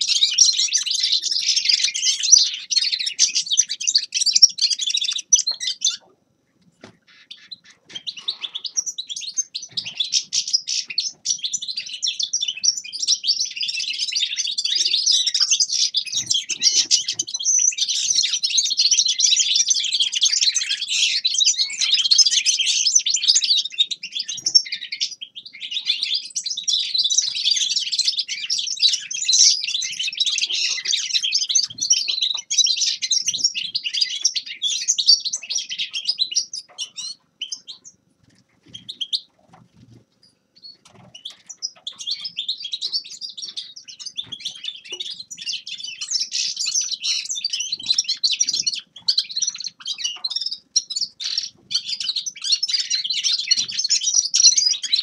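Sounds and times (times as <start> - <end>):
finch twittering song: 0.0 - 6.1, 6.8 - 38.0, 38.6 - 39.3, 40.2 - 55.0.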